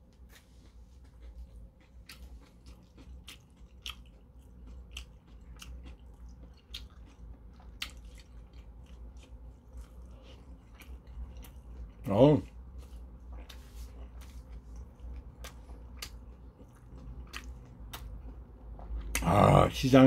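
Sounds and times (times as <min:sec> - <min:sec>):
man chewing food: 0:00.0 - 0:19.6
low steady hum: 0:00.0 - 0:20.0.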